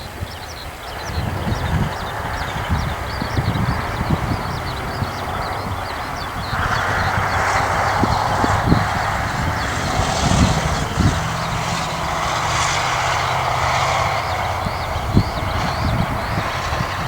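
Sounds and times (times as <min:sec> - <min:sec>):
skylark song: 0:00.0 - 0:17.0
vehicle driving past: 0:01.4 - 0:17.0.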